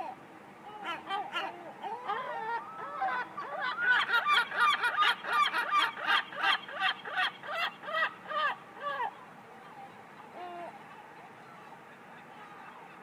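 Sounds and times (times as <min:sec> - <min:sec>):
seagulls calling: 0:00.7 - 0:13.0.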